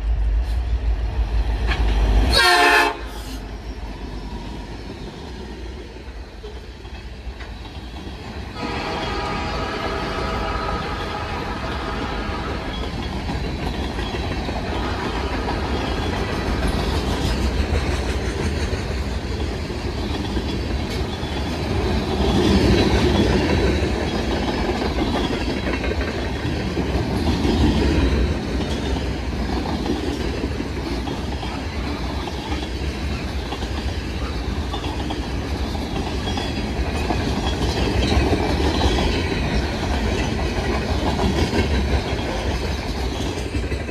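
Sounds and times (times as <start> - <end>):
freight train wheels on rails: 0.0 - 43.9.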